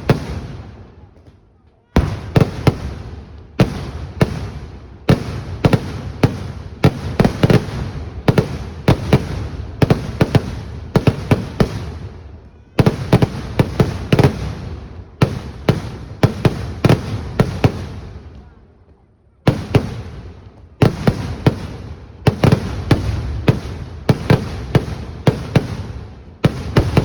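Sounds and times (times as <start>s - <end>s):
fireworks bangs with echoing rumble: 0.0s - 18.6s, 19.4s - 27.0s.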